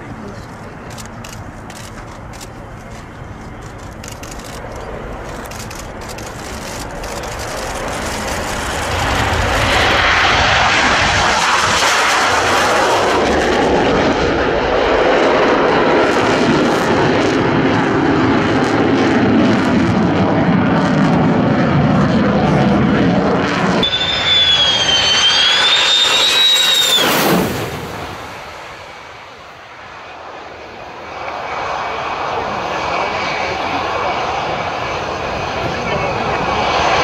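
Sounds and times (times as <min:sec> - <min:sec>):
jet afterburner roar: 0:00.0 - 0:37.0.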